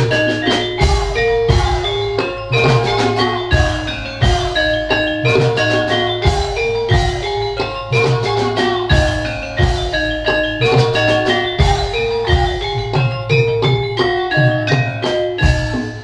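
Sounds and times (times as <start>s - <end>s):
bronze metallophones ringing: 0.0s - 16.0s
hand drum strokes: 0.0s - 16.0s.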